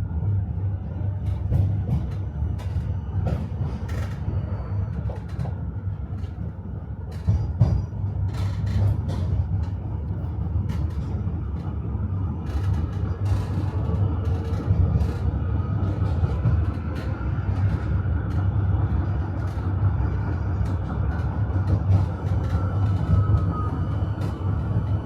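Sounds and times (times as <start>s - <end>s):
tram running gear rumble: 0.0s - 25.0s.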